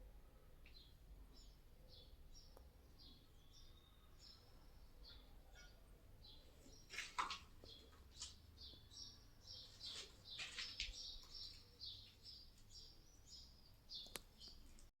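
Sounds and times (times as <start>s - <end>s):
faint birds chirping: 0.0s - 14.9s.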